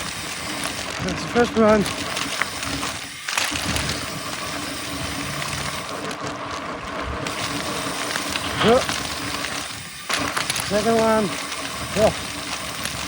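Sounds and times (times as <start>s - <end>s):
tyres rushing on dirt: 0.0s - 13.0s.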